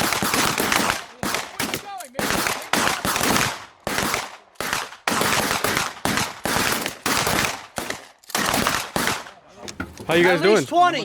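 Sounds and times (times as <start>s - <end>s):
shotgun blasts with echo: 0.0s - 9.4s.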